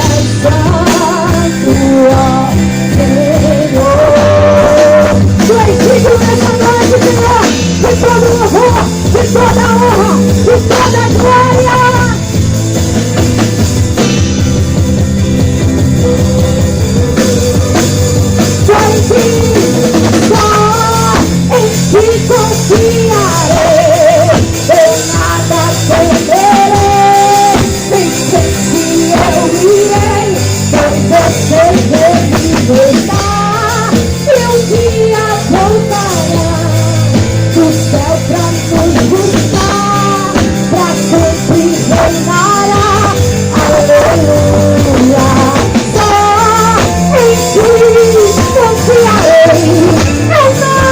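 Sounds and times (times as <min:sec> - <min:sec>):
live gospel band with drums: 0:00.0 - 0:50.9
person singing: 0:00.0 - 0:50.9.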